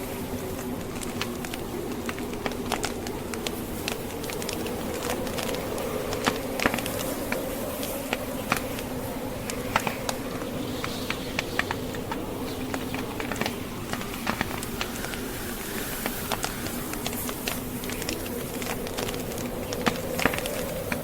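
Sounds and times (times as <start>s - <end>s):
blizzard wind howling: 0.0s - 21.0s
wood fire crackling: 0.0s - 21.0s.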